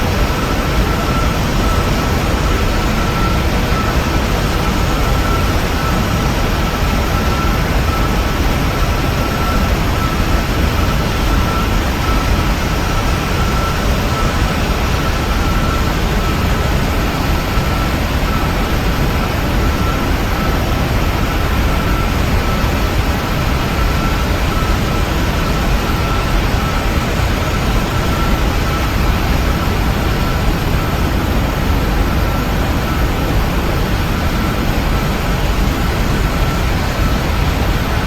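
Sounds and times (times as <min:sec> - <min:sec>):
airliner cabin engine rush: 0:00.0 - 0:38.0
thin steady whine: 0:00.0 - 0:38.0.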